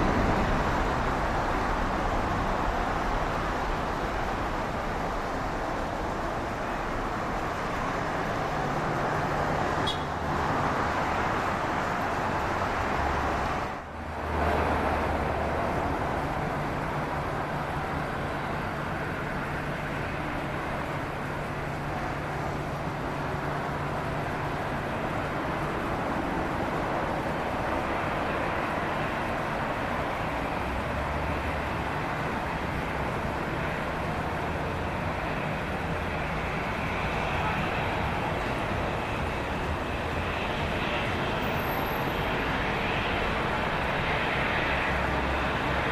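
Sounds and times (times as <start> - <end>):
jet engine noise: 0.0 - 45.9.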